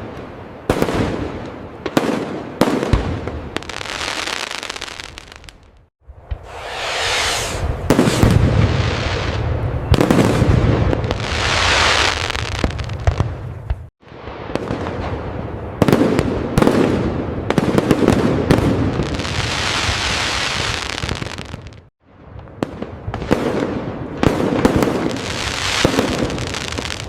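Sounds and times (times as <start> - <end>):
fireworks crackling and booming: 0.0 - 27.0.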